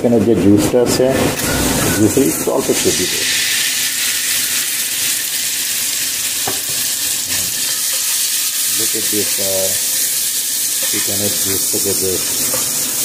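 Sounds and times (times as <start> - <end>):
onions sizzling in oil: 1.7 - 13.0.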